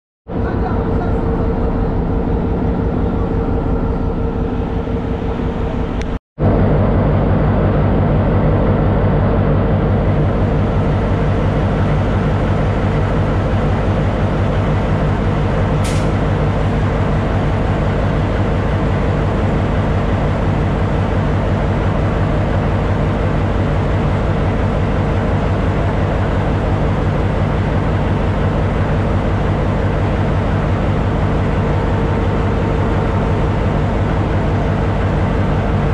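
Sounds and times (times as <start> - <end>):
diesel locomotive engine idling: 0.3 - 35.9.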